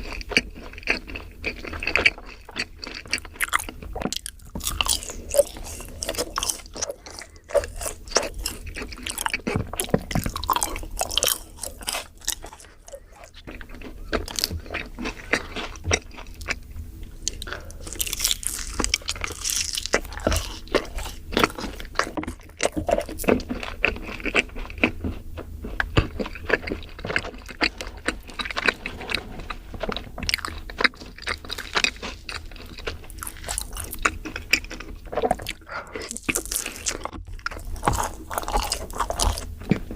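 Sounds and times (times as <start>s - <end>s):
chewing and crunching cookie: 0.0s - 39.9s.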